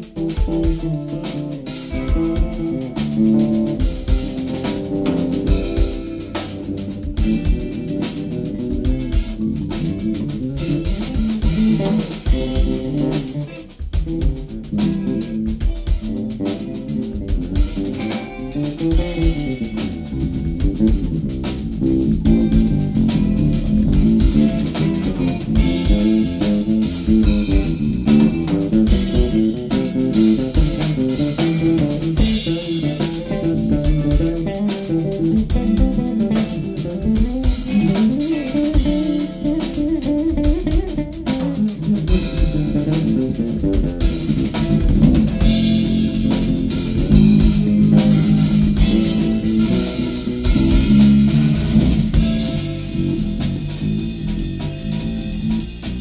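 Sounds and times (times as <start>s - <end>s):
drum kit: 0.0s - 56.0s
electric bass solo: 0.0s - 56.0s.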